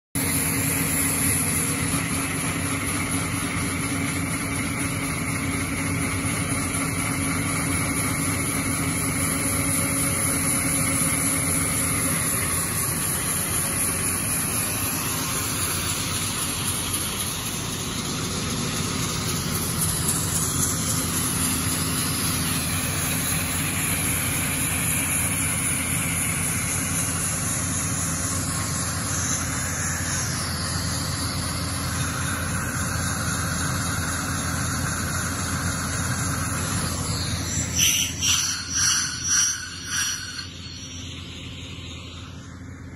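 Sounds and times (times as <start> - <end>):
disc saw cutting concrete: 0.2 - 42.1
diesel engines running: 0.2 - 42.9.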